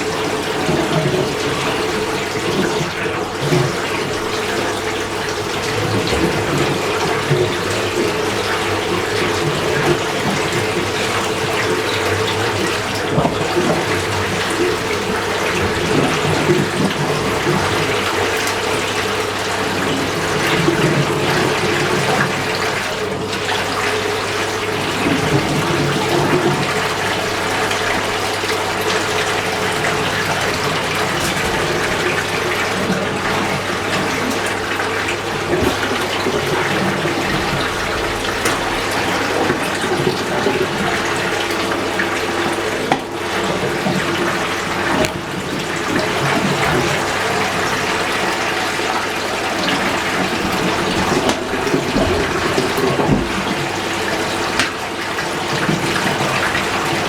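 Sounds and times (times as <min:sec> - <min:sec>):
water rushing in washing machine: 0:00.0 - 0:57.0.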